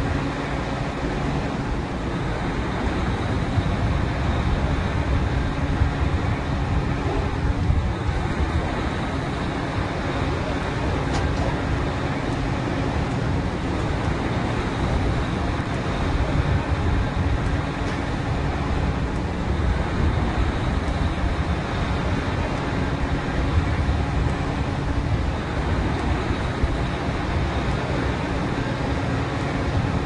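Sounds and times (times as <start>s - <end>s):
drilling machinery drone: 0.0s - 30.0s.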